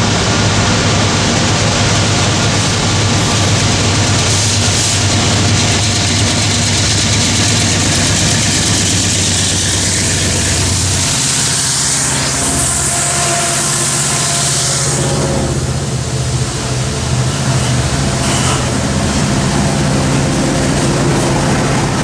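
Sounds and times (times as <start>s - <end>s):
diesel locomotive engine drone: 0.0s - 22.0s
train wheels clattering on rails: 1.3s - 22.0s.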